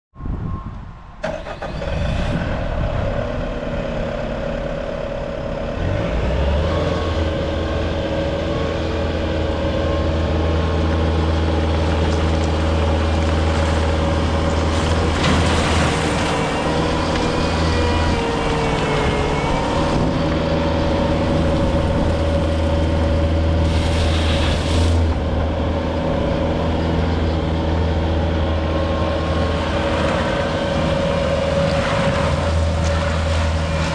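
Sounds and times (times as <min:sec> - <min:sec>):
diesel engine starting and running: 0:00.4 - 0:33.9.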